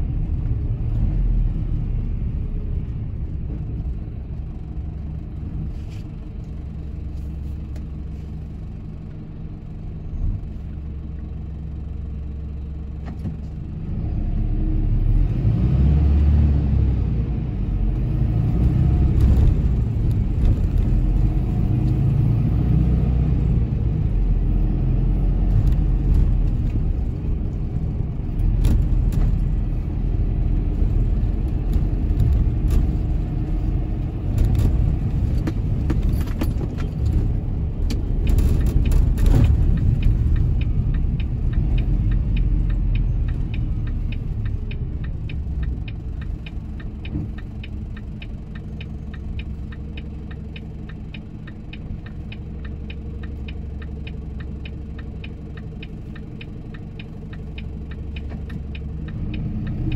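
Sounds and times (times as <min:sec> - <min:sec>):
truck engine rumble: 0:00.0 - 0:59.9.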